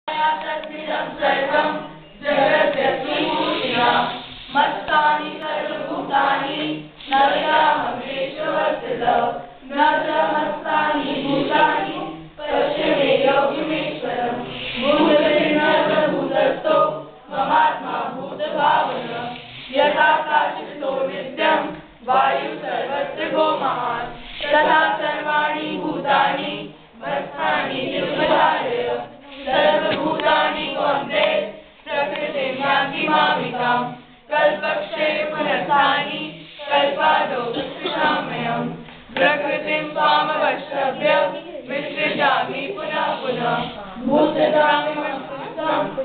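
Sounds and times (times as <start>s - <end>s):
group chanting in unison: 0.1s - 46.0s.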